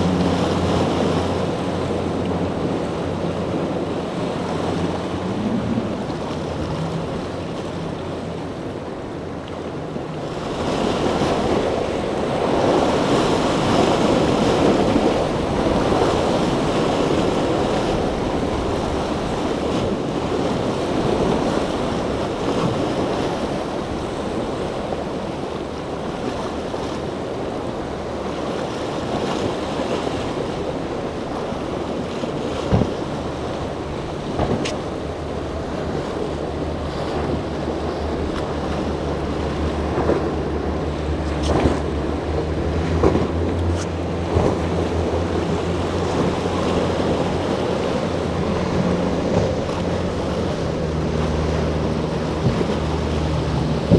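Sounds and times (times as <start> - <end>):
boat engine hum: 0.0 - 53.9
breaking waves rushing: 0.0 - 53.9
wind buffeting microphone: 0.0 - 53.9.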